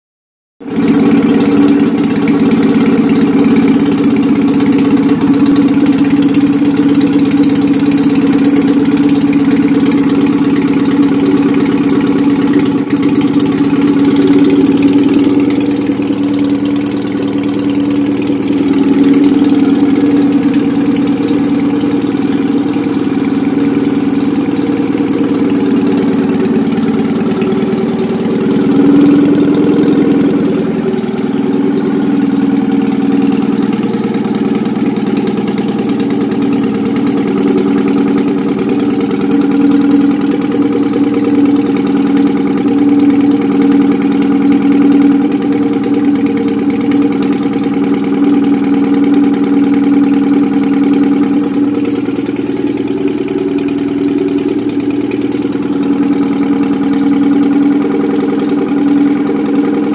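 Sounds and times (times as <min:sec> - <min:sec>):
flat-twin engine idling: 0:00.6 - 0:59.9.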